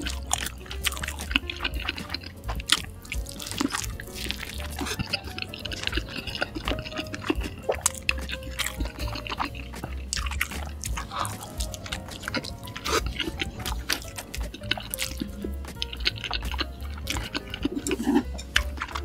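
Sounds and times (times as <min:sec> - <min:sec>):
background music: 0:00.0 - 0:19.0
wet sticky eating sounds: 0:00.0 - 0:19.0.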